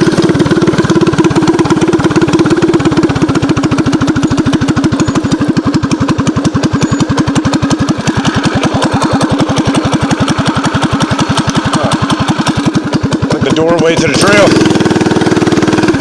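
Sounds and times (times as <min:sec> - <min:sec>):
small single-cylinder engine running: 0:00.0 - 0:16.0.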